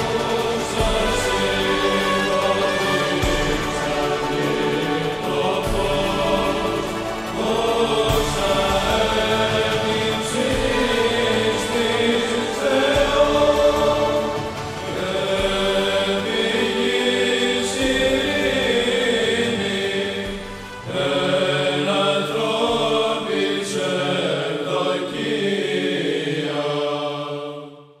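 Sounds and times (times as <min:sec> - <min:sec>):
choir chanting long notes: 0:00.0 - 0:28.0.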